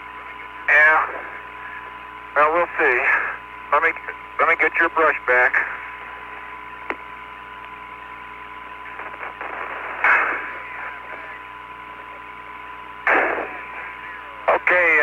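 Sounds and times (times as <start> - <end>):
radio hiss: 0.0 - 15.0
short static bursts: 0.0 - 15.0.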